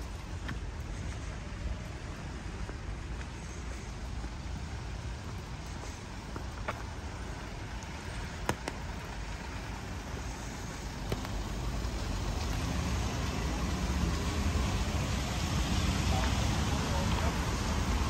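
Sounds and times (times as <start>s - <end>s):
passing cars rumble and hiss: 0.0s - 18.0s.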